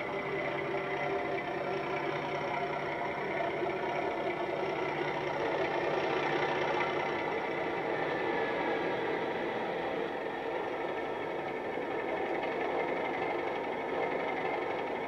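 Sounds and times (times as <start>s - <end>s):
model train diesel engine sound: 0.0s - 15.0s.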